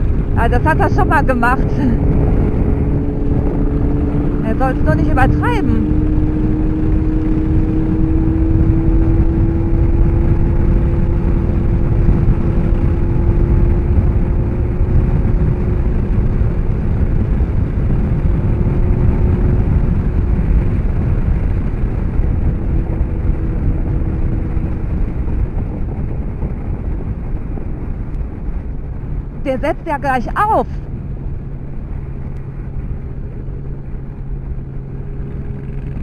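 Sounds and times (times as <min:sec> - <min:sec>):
motorcycle engine: 0:00.0 - 0:29.1
wind rush on helmet: 0:00.0 - 0:36.0.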